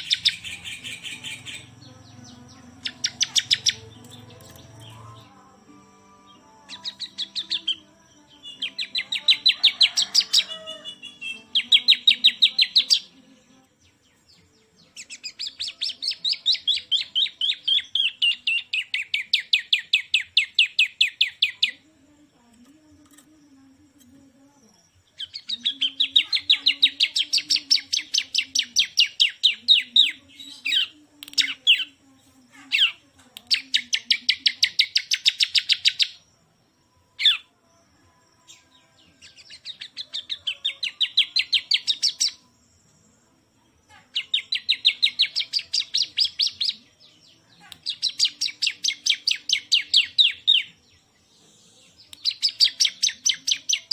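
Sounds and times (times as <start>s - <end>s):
bird singing rapid trills: 0.0s - 53.9s.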